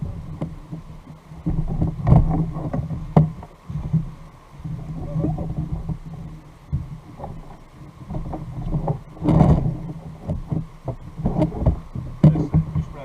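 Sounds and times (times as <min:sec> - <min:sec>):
water slapping against kayak hull: 0:00.0 - 0:13.0.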